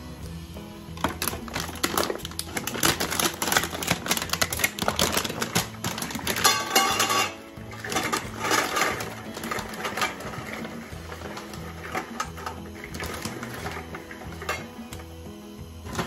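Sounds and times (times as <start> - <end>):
background music: 0.0 - 16.0
plastic bag crinkling: 1.0 - 15.0.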